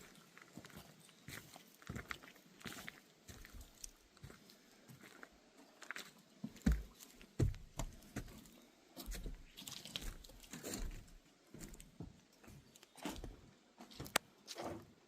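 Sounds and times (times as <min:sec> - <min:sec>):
footsteps crunching on a path: 0:00.0 - 0:14.8.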